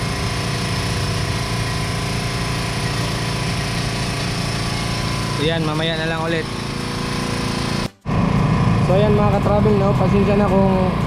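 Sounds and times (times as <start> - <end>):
small engine running steadily: 0.0 - 11.0.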